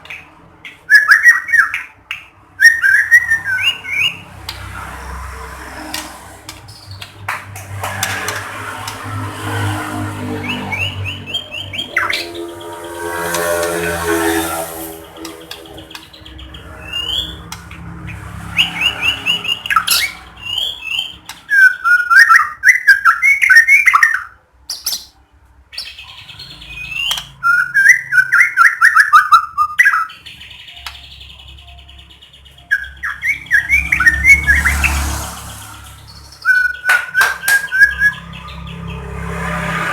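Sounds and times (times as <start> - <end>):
songbird singing rapid phrases: 0.0 - 7.3, 7.9 - 39.9.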